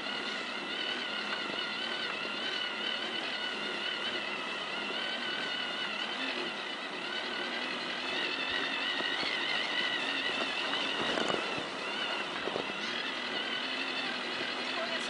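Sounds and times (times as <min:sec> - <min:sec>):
electric toy motor whine: 0:00.0 - 0:15.0.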